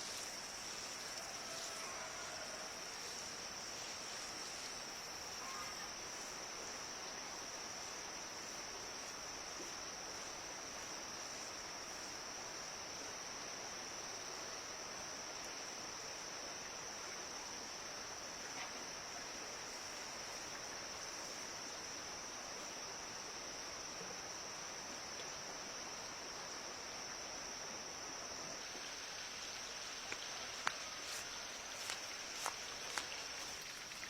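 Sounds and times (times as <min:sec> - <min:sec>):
crickets droning: 0:00.0 - 0:34.0
faint outdoor hiss: 0:00.0 - 0:34.0.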